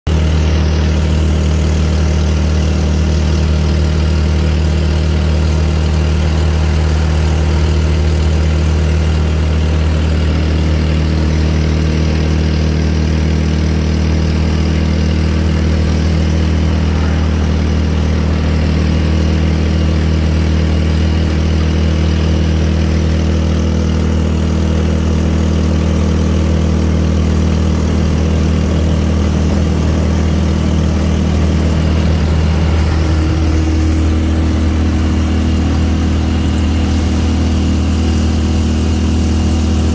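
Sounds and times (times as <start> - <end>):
motorcycle engine cruising: 0.1 - 39.9.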